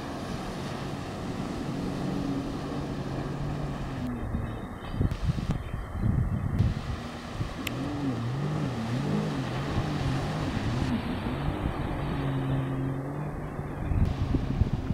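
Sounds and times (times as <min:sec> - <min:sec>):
jet ski engine running: 0:00.0 - 0:14.9.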